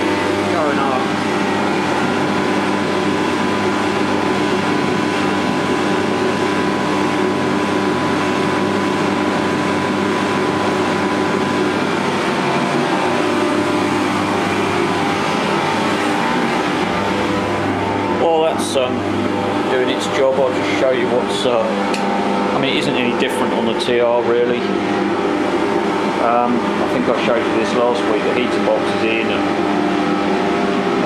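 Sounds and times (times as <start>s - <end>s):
space heater roaring: 0.0s - 31.0s.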